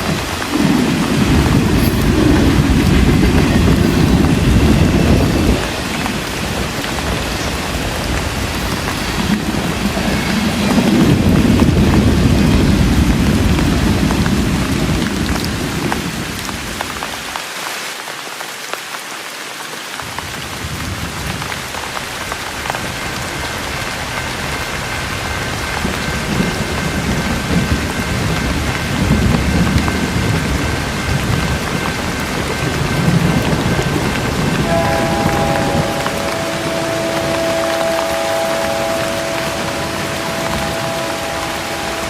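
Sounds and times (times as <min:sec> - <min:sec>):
low rolling thunder: 0:00.0 - 0:17.0, 0:20.2 - 0:42.0
steady rain falling: 0:00.0 - 0:42.0.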